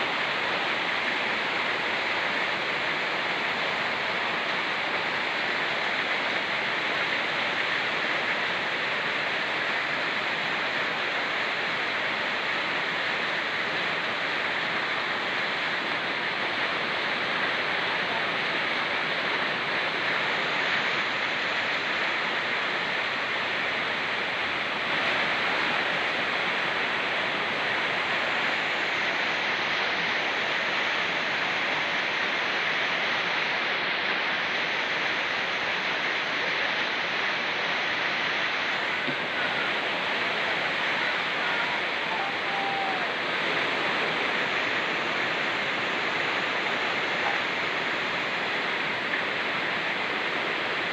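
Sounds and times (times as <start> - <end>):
fast-flowing stream: 0.0 - 50.9
rain falling in forest: 0.0 - 50.9.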